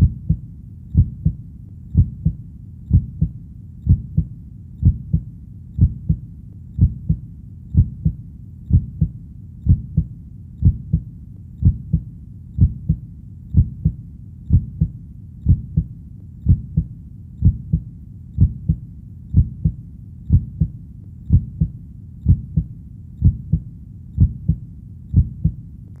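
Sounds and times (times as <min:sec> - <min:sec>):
faint low rumble: 0:00.0 - 0:26.0
heartbeat: 0:00.0 - 0:26.0.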